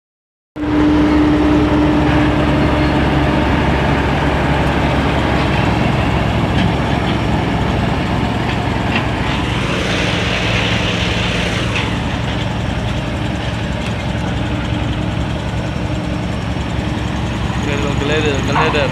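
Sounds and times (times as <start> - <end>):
heavy diesel engine running: 0.6 - 18.9.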